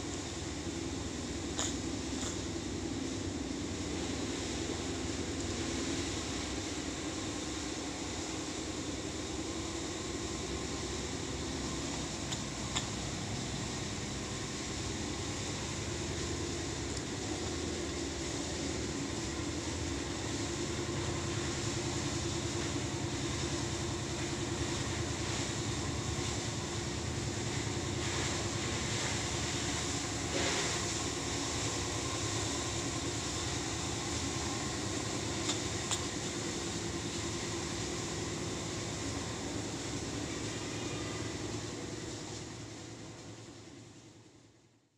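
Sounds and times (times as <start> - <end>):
low droning rumble with hiss: 0.0 - 44.9.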